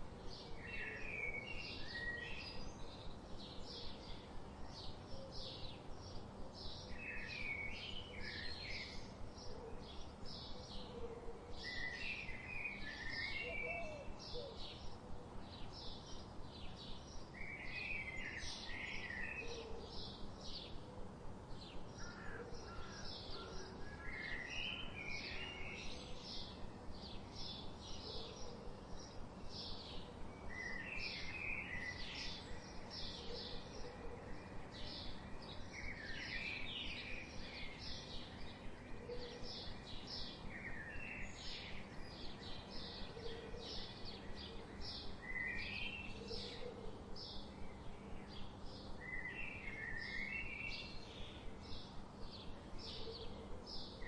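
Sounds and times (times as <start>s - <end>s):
soft background hiss: 0.0s - 54.0s.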